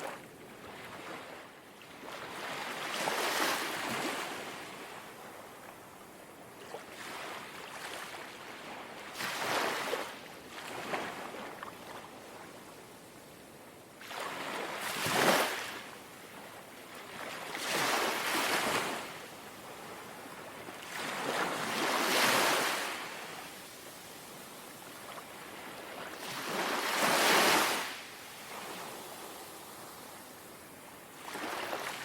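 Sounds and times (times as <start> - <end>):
gentle waves lapping shore: 0.0 - 32.0.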